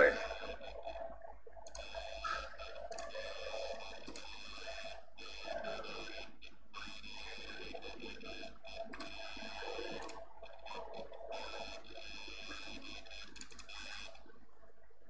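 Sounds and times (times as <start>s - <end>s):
high multi-tone whine: 0.0s - 14.2s
faint ticks: 0.0s - 14.4s
electrical hum: 0.0s - 15.0s.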